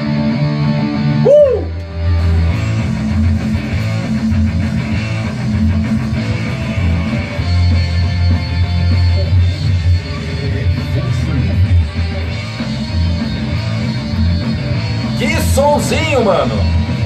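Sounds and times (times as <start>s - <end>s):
rock song with electric guitar: 0.0s - 17.0s.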